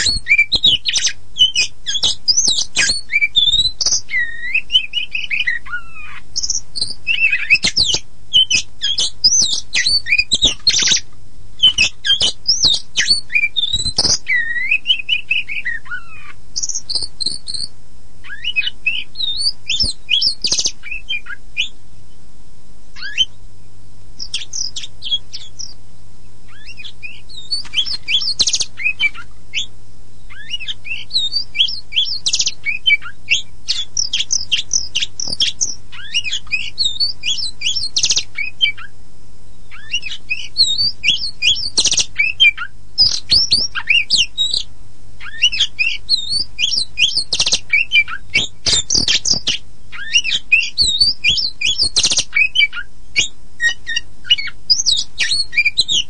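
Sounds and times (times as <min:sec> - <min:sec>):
bird singing whistles and trills: 0:00.0 - 0:21.8, 0:23.0 - 0:23.4, 0:24.2 - 0:25.8, 0:26.5 - 0:39.0, 0:39.6 - 0:56.0
faint low hum: 0:00.0 - 0:56.0.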